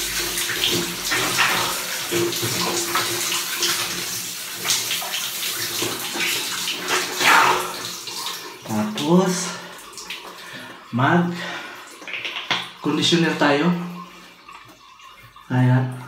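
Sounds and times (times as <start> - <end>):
shower water splashing on person: 0.0 - 16.0.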